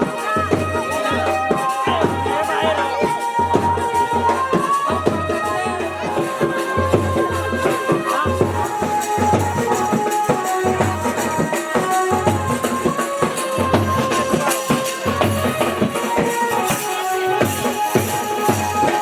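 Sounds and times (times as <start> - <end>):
music with drum beat and melody: 0.0 - 19.0.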